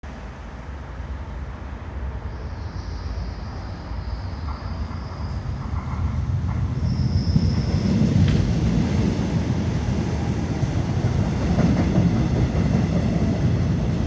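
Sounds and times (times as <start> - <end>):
train wheels rumbling on rail: 0.3 - 14.0.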